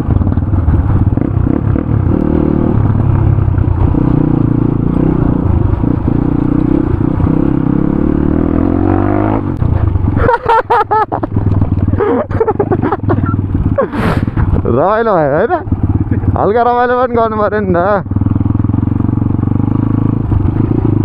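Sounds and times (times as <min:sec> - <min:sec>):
bike rattling: 0:00.0 - 0:21.0
motorcycle engine running: 0:00.0 - 0:21.0.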